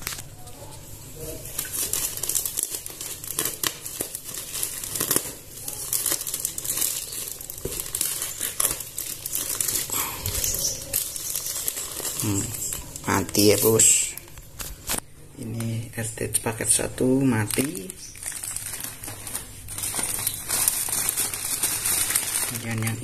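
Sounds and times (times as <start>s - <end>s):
plastic bag crinkling: 0.0s - 23.0s.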